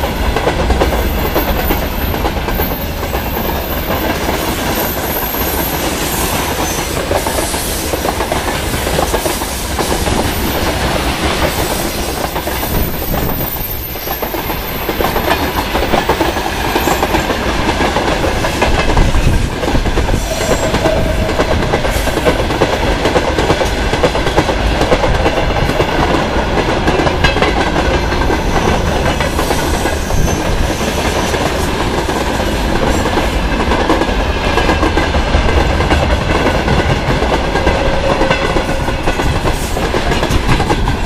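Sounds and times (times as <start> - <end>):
freight train rumbling past: 0.0 - 41.0.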